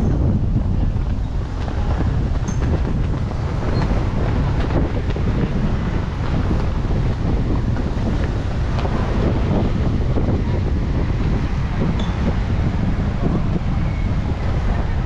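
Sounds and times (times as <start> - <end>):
street noise: 0.0 - 15.0
wind rumbling on microphone: 0.0 - 15.0.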